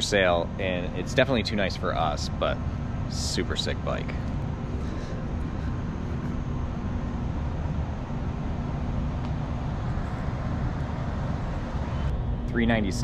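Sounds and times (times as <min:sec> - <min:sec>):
faint steady hum: 0:00.0 - 0:13.0
ventilation rumble: 0:00.0 - 0:13.0.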